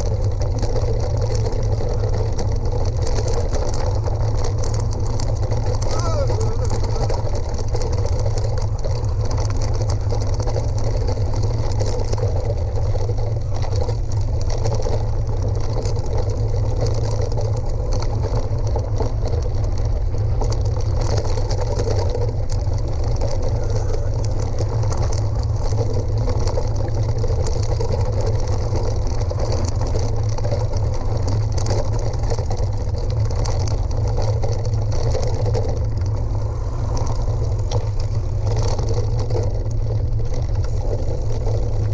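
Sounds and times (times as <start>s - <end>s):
tyres rolling over loose stones: 0.0s - 41.9s
wind rumble on microphone: 0.0s - 41.9s.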